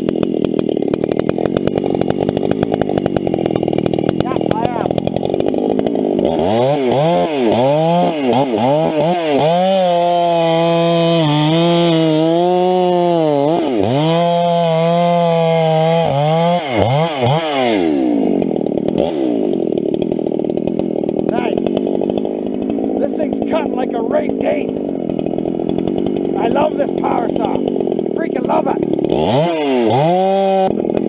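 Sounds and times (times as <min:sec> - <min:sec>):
chainsaw revving: 0:00.0 - 0:31.0.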